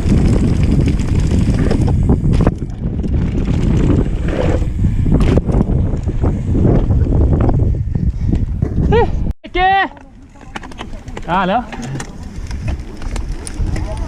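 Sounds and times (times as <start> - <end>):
bike knocks and rattles: 0.0 - 9.0, 10.0 - 14.0
mountain bike on dirt trail: 0.0 - 14.0
wind buffeting microphone: 0.0 - 14.0.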